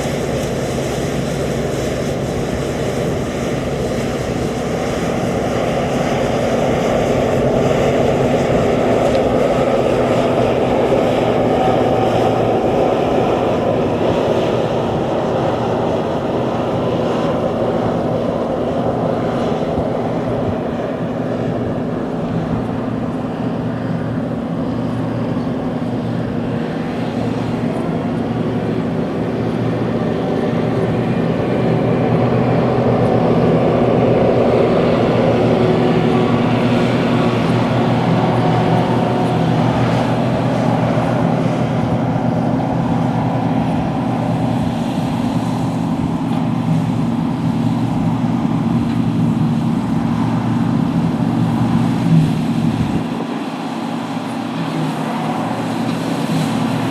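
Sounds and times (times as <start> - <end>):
diesel engine drone: 0.0 - 56.9.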